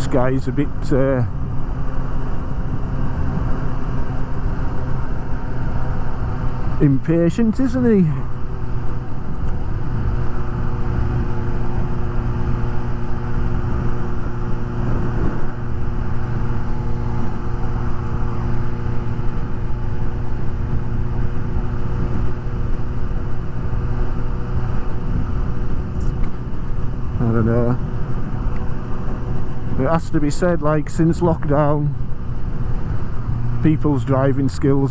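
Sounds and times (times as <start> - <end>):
motorcycle engine running: 0.0 - 34.9
wind rushing over microphone: 0.0 - 34.9.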